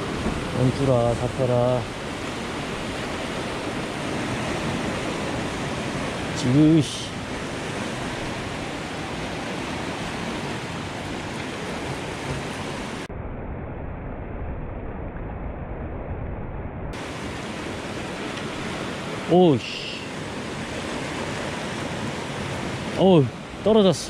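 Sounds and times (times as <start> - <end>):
surf washing over rocks: 0.0 - 13.1, 17.0 - 24.0.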